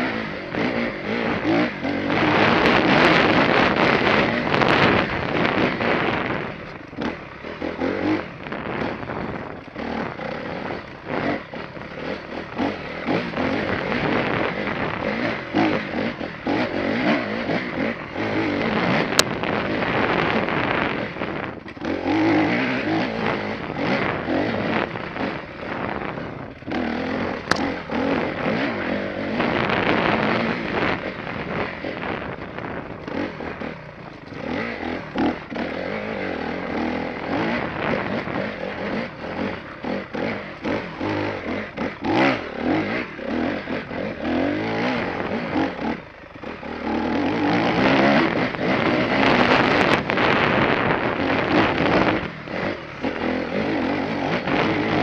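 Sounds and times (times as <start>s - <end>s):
dirt bike engine revving: 0.0s - 55.0s
wind on camera: 0.0s - 55.0s.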